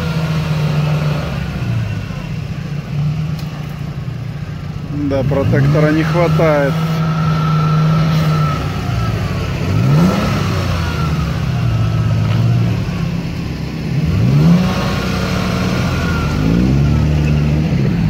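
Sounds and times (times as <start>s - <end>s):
engine revving in mud: 0.0s - 3.9s, 4.8s - 18.0s.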